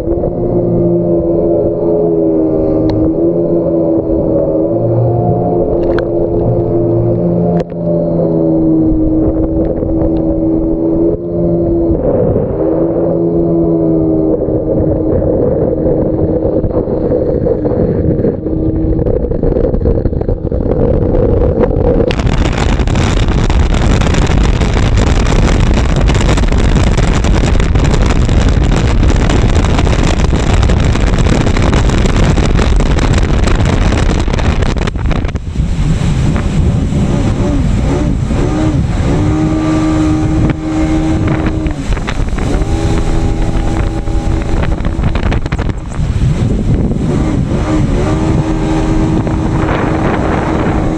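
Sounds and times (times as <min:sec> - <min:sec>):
jet ski engine running: 0:00.0 - 0:50.9
wind and water rushing on microphone: 0:00.0 - 0:50.9.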